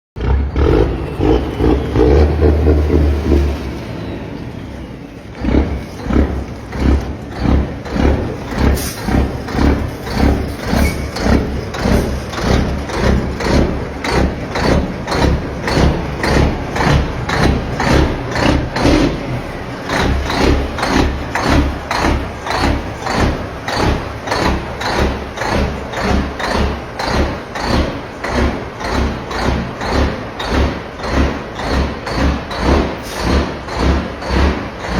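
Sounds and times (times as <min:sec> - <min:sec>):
truck diesel engine running: 0:00.2 - 0:34.9.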